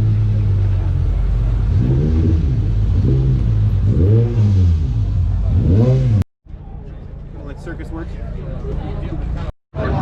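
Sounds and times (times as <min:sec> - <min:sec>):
car engine idling and revving: 0:00.0 - 0:09.5.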